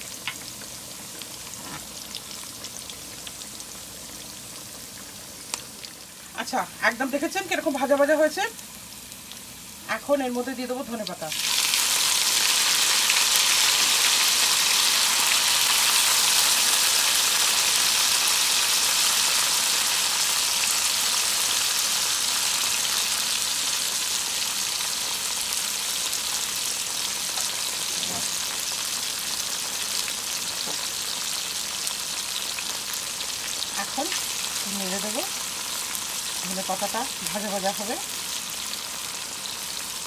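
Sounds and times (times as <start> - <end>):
leaves sizzling in hot oil: 0.0 - 40.0.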